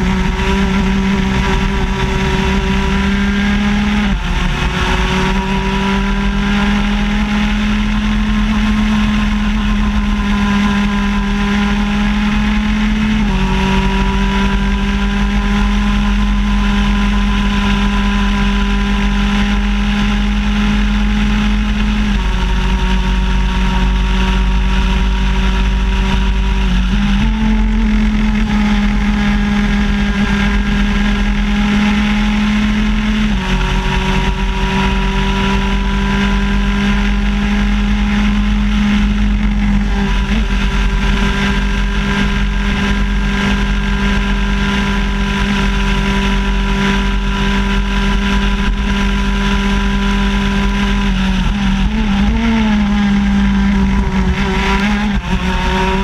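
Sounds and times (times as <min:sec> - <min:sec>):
kart engine running hard: 0:00.0 - 0:56.0
wind rumble on microphone: 0:00.0 - 0:56.0.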